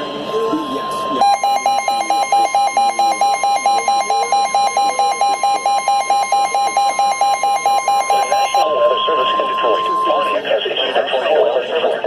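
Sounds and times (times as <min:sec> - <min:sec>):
steady high tone: 0:00.0 - 0:11.3
rapid alarm beeping: 0:00.0 - 0:11.5.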